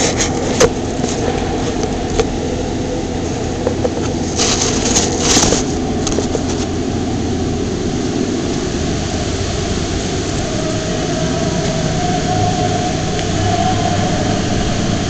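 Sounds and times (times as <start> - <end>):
machinery rumbling: 0.0 - 15.0.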